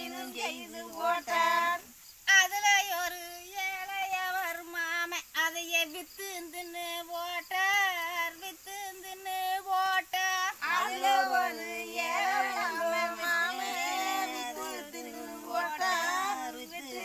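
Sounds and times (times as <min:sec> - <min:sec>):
woman singing: 0:00.0 - 0:17.0
women singing in chorus: 0:00.0 - 0:17.0.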